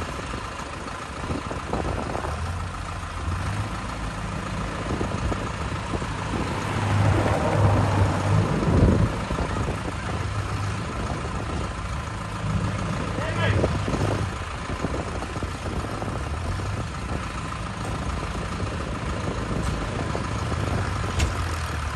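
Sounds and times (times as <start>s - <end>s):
tractor engines running: 0.0s - 21.9s.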